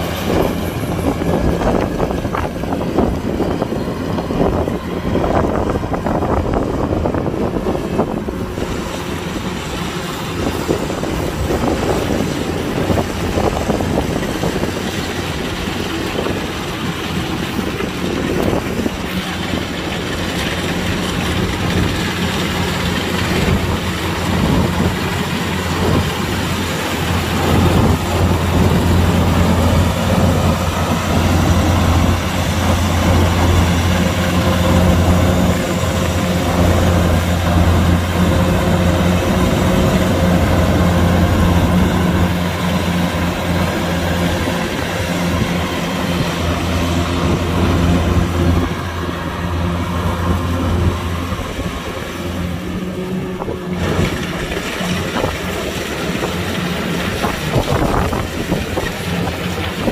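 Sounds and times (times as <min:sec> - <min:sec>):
diesel engine humming: 0:00.0 - 0:59.9
machinery rushing noise: 0:00.0 - 0:59.9.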